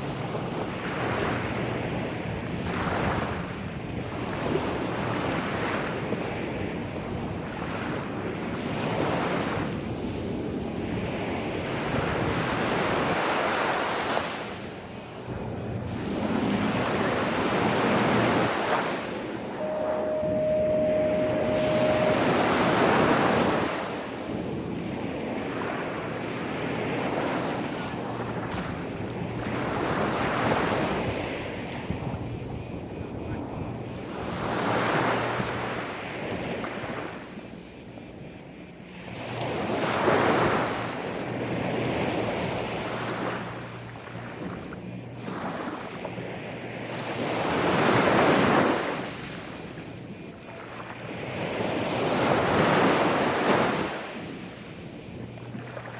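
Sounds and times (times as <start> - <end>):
sea waves washing onto beach: 0.0 - 37.6, 38.9 - 55.9.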